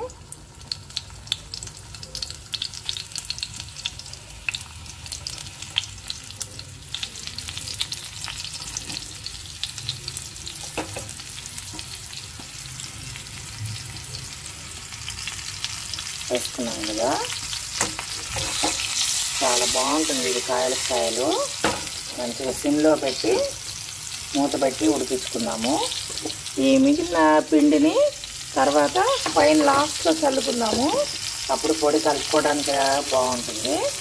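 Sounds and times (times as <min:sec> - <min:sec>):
food frying with crackling pops: 0:00.0 - 0:34.0.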